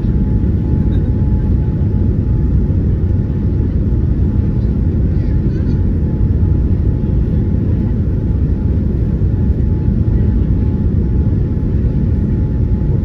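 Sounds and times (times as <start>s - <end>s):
aircraft cabin engine rumble: 0.0s - 13.0s
faint steady whine: 0.0s - 13.0s.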